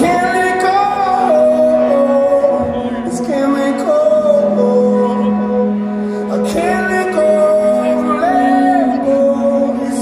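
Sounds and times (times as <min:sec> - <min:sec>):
live rock band playing: 0:00.0 - 0:10.0
man singing long notes: 0:00.0 - 0:10.0.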